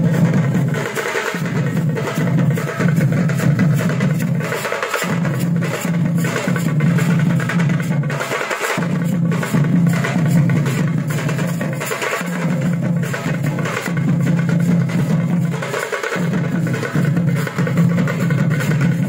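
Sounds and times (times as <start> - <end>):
frame drums beaten fast: 0.0 - 19.0.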